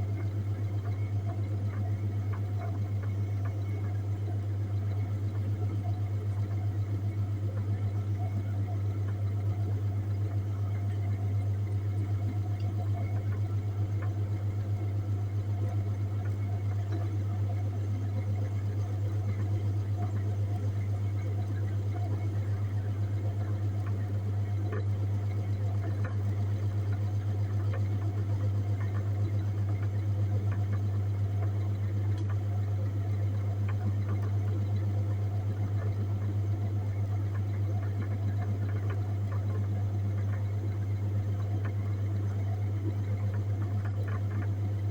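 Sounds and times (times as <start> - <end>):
refrigerator compressor humming: 0.0 - 44.9.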